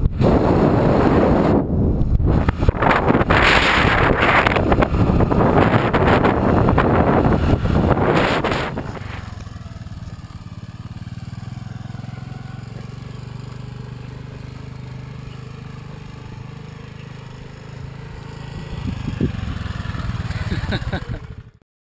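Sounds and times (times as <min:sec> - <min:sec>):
small motorbike engine running: 0:00.0 - 0:21.6.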